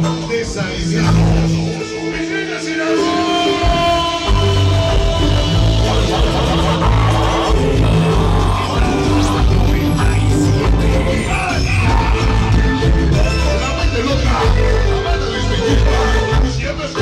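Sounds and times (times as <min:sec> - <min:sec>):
loud dance music: 0:02.5 - 0:17.0.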